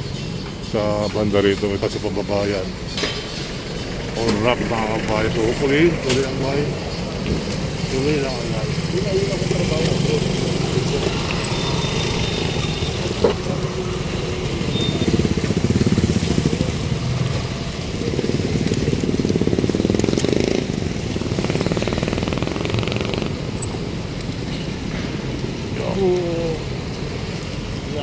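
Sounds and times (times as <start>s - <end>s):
motorcycles: 0.0s - 28.0s
vehicle engines running: 0.0s - 28.0s.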